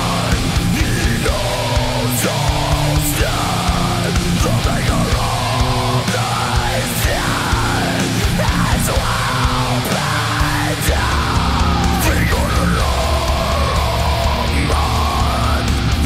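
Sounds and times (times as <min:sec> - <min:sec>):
distorted guitars: 0:00.0 - 0:16.0
drums: 0:00.0 - 0:16.0.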